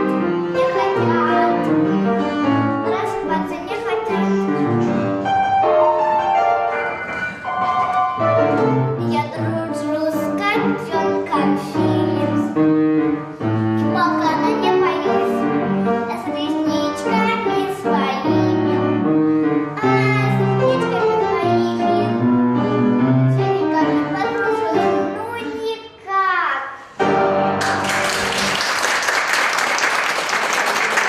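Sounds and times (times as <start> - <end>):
instrumental backing music: 0.0 - 25.7, 26.8 - 28.6.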